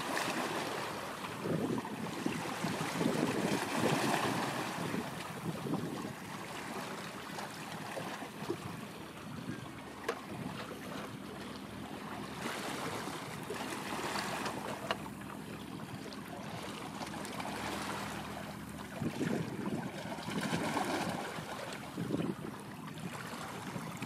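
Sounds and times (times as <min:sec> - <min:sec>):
water splashes and surges: 0:00.0 - 0:24.0
wind: 0:00.0 - 0:24.0.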